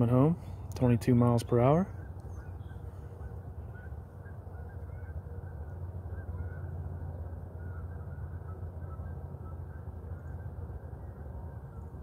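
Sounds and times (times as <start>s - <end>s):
faint distant bird calls: 0.0s - 12.0s
steady low background noise: 0.0s - 12.0s.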